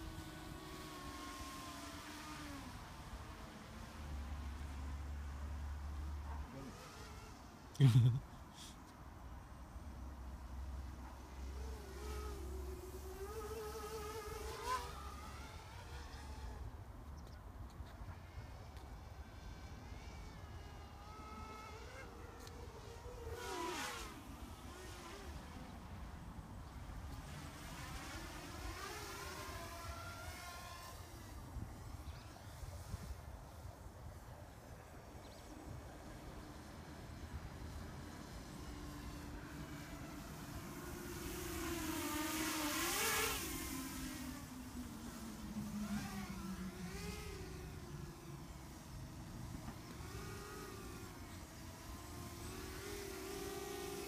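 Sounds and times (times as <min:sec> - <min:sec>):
drone motors and propellers whining: 0:00.0 - 0:08.3, 0:10.0 - 0:54.0.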